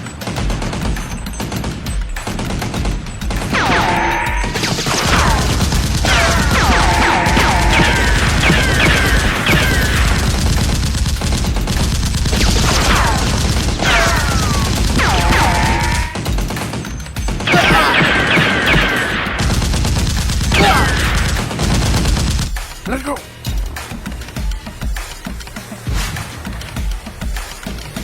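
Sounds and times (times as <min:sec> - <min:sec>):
rapid machine-gun fire: 0:00.0 - 0:22.9.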